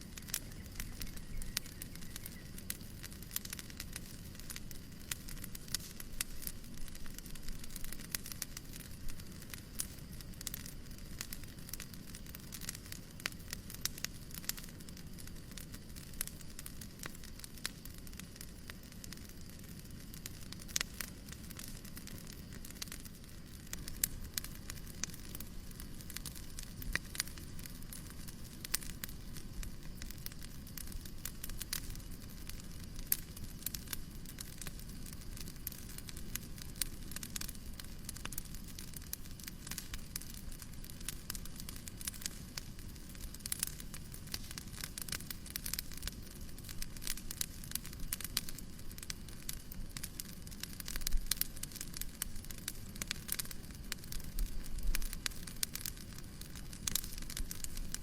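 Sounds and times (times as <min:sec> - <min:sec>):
fire hiss and rumble: 0:00.0 - 0:58.0
fire pops and snaps: 0:00.0 - 0:58.0
fireplace crackling: 0:00.0 - 0:58.0.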